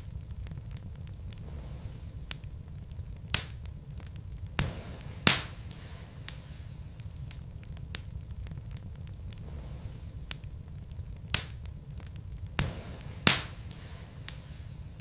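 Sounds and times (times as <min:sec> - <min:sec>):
burning logs crackling: 0:00.0 - 0:15.0.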